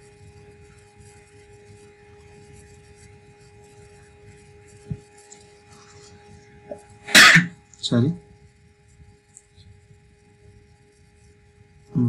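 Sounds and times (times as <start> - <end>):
background hum and hiss: 0.0 - 12.0
thin steady tones: 0.0 - 12.0.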